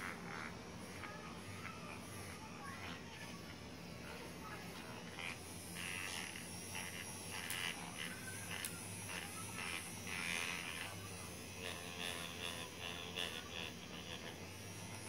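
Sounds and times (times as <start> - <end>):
tines scratching fur: 0.0 - 3.4, 4.0 - 15.0
vibrating massager buzzing: 0.0 - 15.0.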